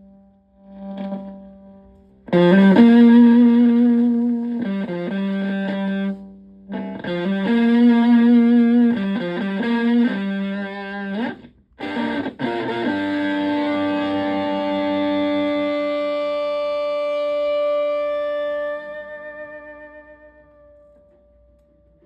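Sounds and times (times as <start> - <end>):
fuzzed electric guitar: 0.0 - 22.0.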